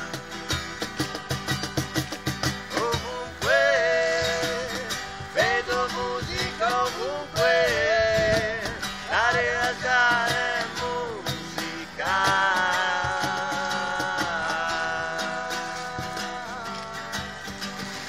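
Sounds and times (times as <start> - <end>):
strummed acoustic guitar: 0.0 - 18.0
man singing: 2.6 - 17.6.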